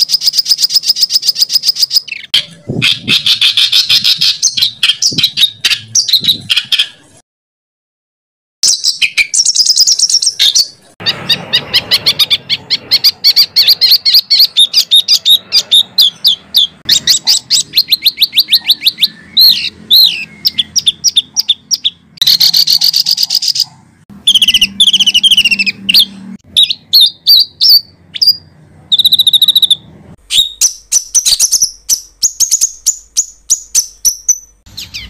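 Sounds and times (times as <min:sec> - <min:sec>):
songbird trilling: 0:00.0 - 0:07.1, 0:08.6 - 0:35.0.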